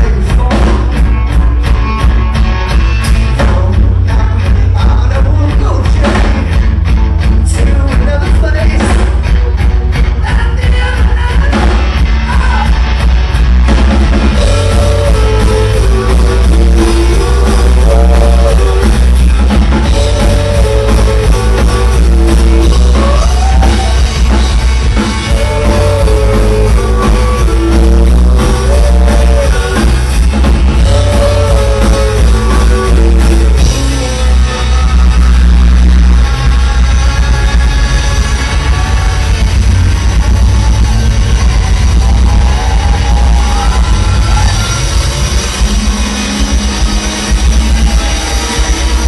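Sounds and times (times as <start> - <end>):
rock band playing live: 0.0 - 49.0.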